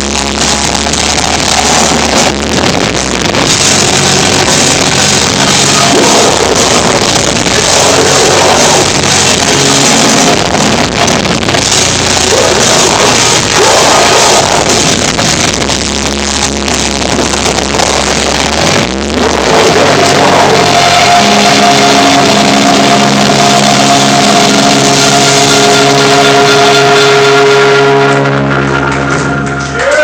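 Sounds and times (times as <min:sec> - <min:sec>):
distorted live hardcore band: 0:00.0 - 0:30.0.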